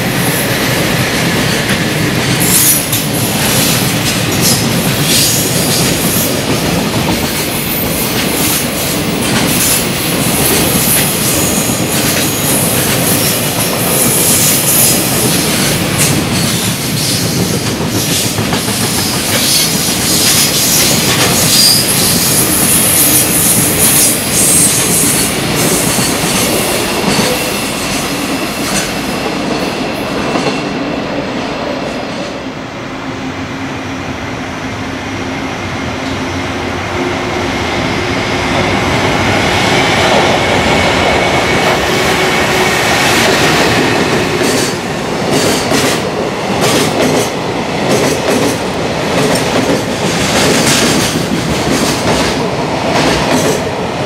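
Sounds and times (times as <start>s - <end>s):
freight train wheels clattering: 0.0s - 30.9s, 39.0s - 54.0s.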